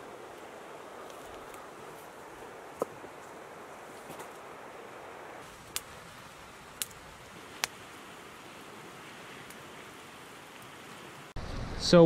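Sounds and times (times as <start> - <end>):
campfire crackling pops: 0.0 - 11.7
fire hissing softly: 0.0 - 12.0.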